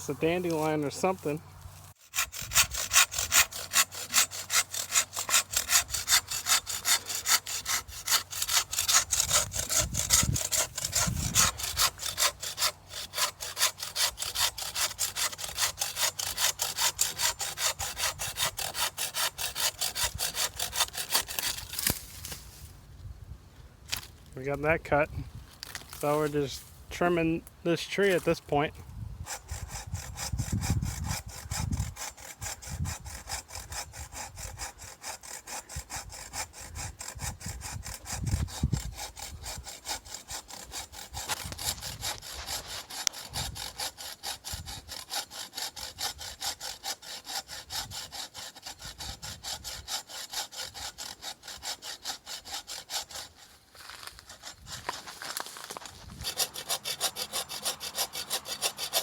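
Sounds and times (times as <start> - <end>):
hand saw cutting branch: 0.0 - 22.7, 23.9 - 59.0.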